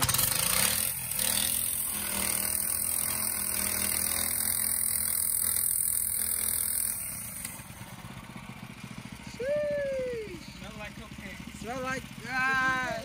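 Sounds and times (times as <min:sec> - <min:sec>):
minibike engine at high revs: 0:00.0 - 0:13.0
tire spinning on concrete: 0:00.0 - 0:13.0.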